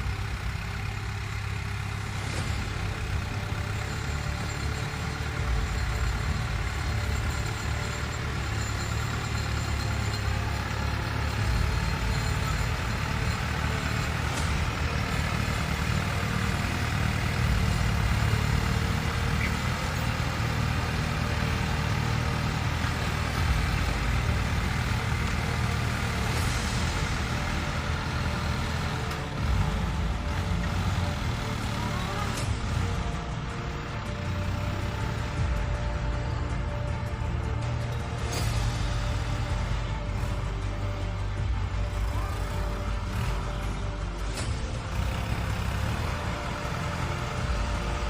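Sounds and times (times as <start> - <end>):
tractor engine rumbling: 0.0 - 48.0.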